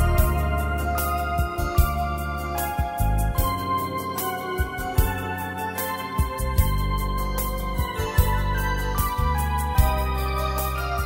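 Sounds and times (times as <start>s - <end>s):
bass line: 0.0s - 11.0s
sustained keyboard chords: 0.0s - 11.0s.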